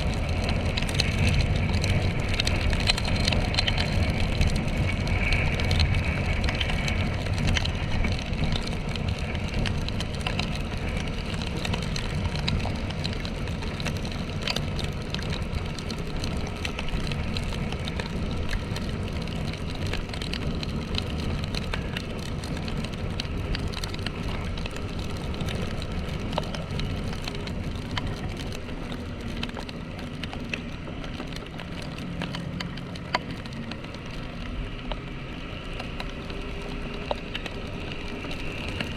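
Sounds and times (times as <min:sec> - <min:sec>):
raindrops hitting camera: 0:00.0 - 0:38.9
wind and tyre noise: 0:00.0 - 0:38.9.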